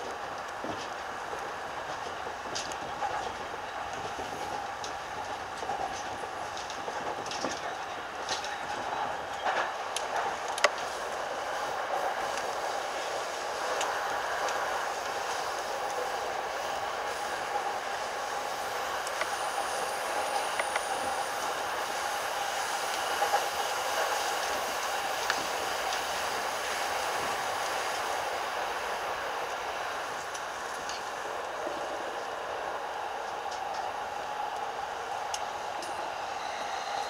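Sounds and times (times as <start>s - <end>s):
train rolling hum: 0.0s - 37.0s.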